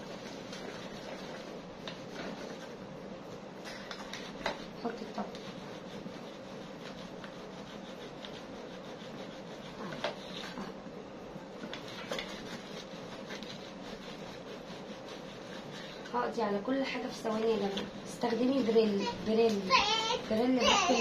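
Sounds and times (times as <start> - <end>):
sponge scrubbing plastic: 0.0 - 2.9, 3.9 - 10.7, 11.4 - 21.0.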